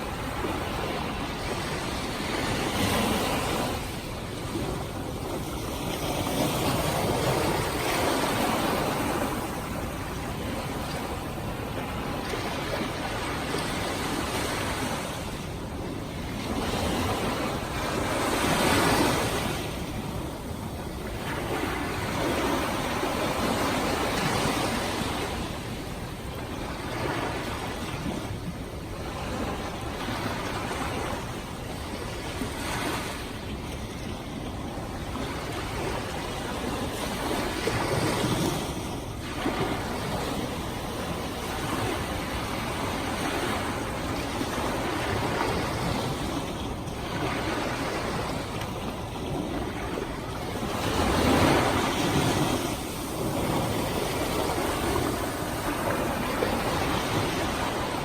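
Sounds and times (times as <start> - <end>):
waves breaking on a beach: 0.0 - 58.0.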